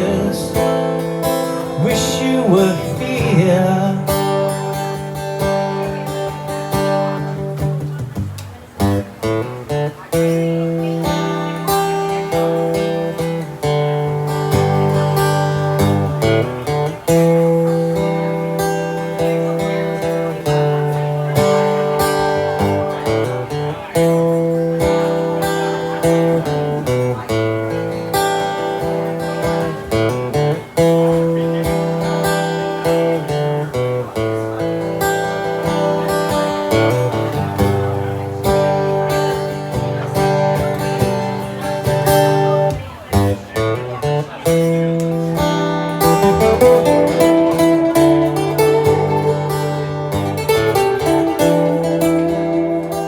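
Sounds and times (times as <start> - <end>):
acoustic guitar chords: 0.0 - 53.0.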